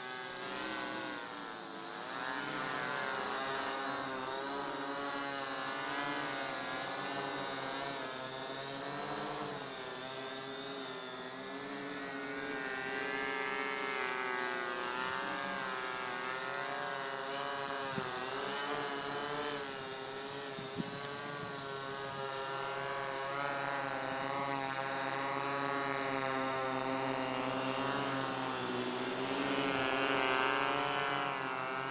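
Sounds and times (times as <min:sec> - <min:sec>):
drone propellers buzzing: 0:00.0 - 0:31.9.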